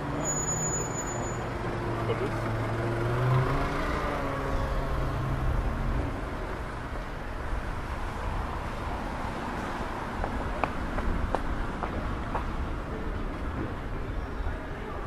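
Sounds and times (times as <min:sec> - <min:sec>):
traffic rumble: 0:00.0 - 0:15.0
vehicle engine hum: 0:00.0 - 0:15.0.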